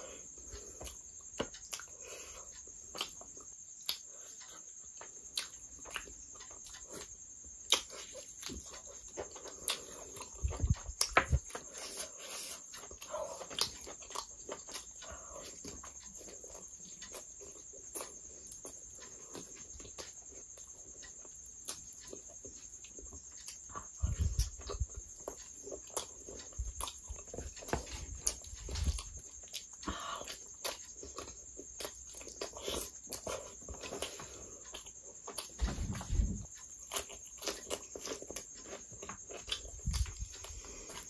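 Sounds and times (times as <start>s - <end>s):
chewing and wet lip-smacking: 0.8s - 35.5s, 36.6s - 41.0s.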